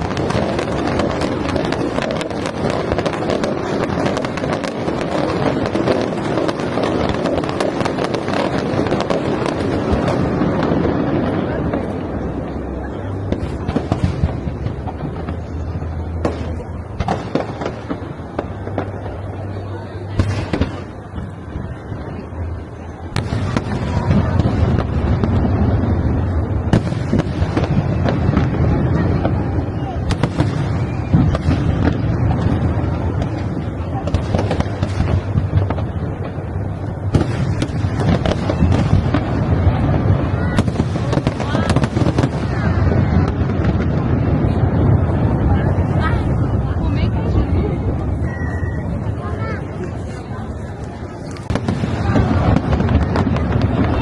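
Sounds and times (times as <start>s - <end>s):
continuous low rumble: 0.0s - 54.0s
fireworks bangs and pops: 0.0s - 54.0s.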